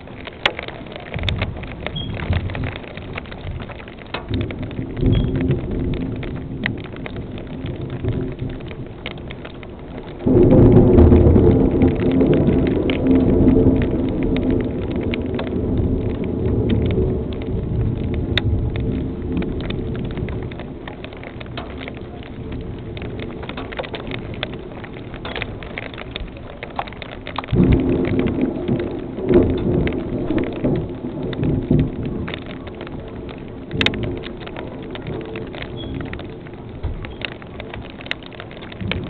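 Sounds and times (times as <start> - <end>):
rain pattering: 0.0 - 39.0
thunder clap: 0.0 - 39.0
thunder rumbling: 0.0 - 39.0.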